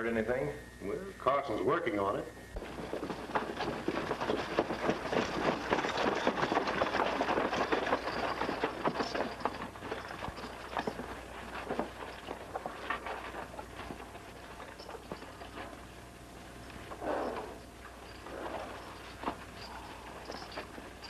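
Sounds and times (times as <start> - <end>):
galloping horse hoofbeats: 2.6 - 21.0.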